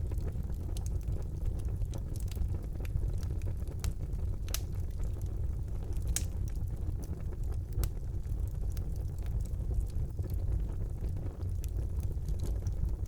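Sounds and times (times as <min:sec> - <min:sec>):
fire crackles and pops: 0:00.0 - 0:13.0
fire rumbling: 0:00.0 - 0:13.0.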